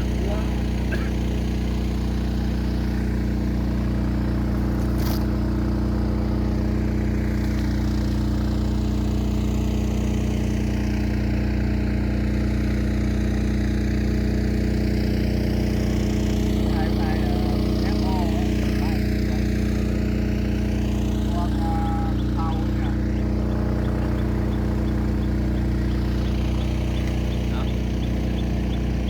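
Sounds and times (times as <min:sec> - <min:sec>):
drone propellers humming: 0:00.0 - 0:29.0.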